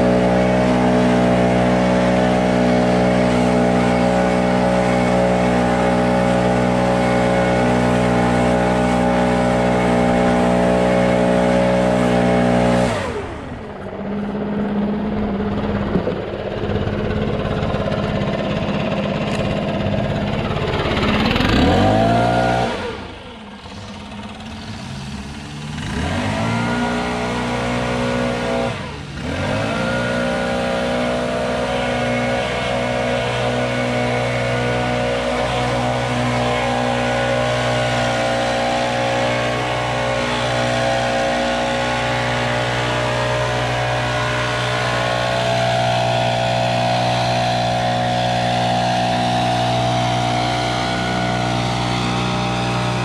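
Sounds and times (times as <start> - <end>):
leaf blower engine revving: 0.0 - 53.0.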